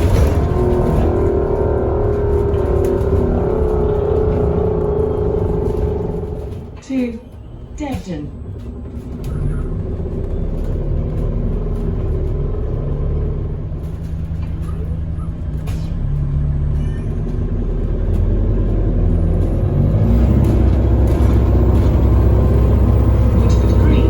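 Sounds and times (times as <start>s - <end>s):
bus engine running: 0.0s - 24.0s
road rumble: 0.0s - 24.0s.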